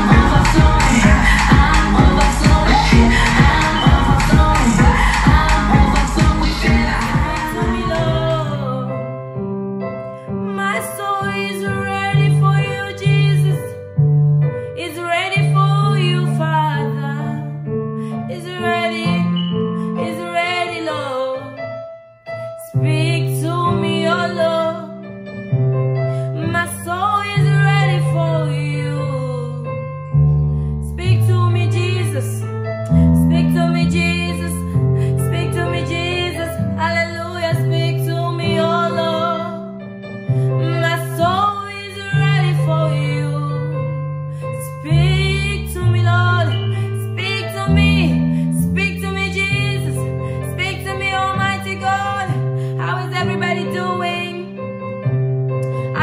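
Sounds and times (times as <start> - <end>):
woman singing: 0.0 - 9.2, 10.4 - 13.8, 14.7 - 21.6, 22.6 - 25.0, 26.3 - 29.9, 30.8 - 39.7, 40.5 - 54.6, 55.7 - 56.0
keyboard accompaniment: 0.0 - 56.0.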